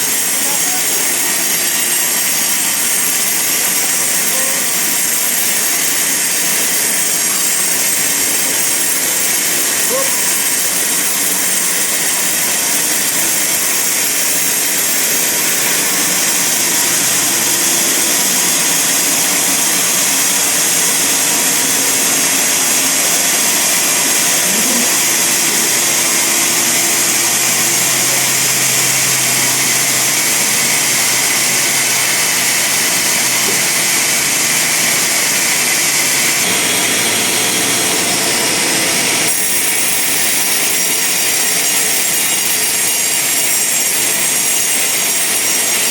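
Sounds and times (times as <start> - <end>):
band saw cutting a log: 0.0 - 45.9.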